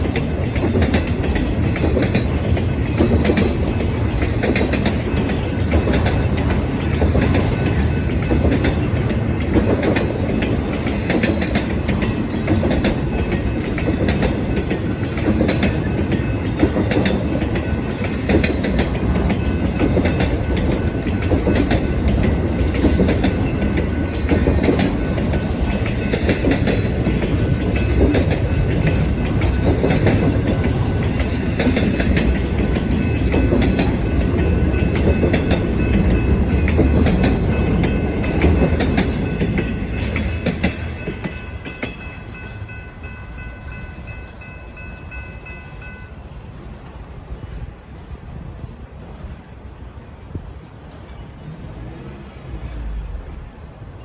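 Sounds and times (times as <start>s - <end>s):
freight train wheels clattering: 0.0s - 46.1s.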